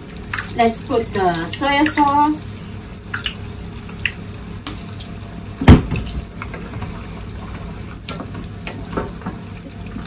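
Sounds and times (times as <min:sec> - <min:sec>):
water boiling and bubbling: 0:00.0 - 0:10.0.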